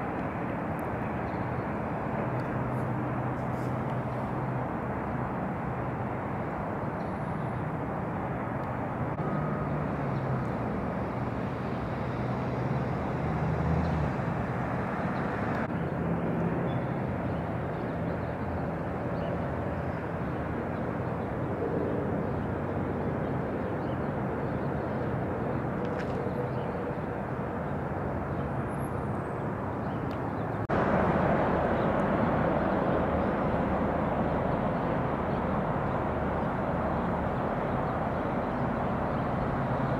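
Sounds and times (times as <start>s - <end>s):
outdoor background noise: 0.0s - 39.9s.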